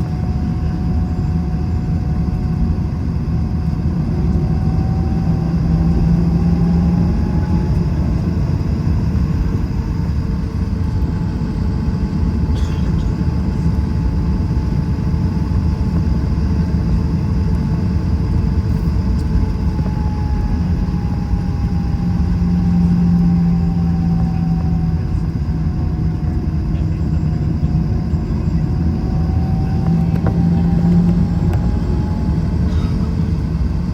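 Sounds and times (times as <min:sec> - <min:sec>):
jet engine rumble in cabin: 0:00.0 - 0:33.9
low hum: 0:00.0 - 0:33.9.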